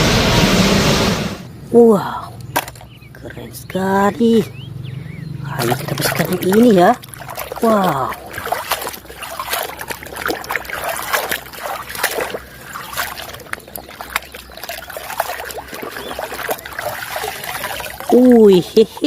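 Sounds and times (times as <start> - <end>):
water trickling: 2.4 - 19.0.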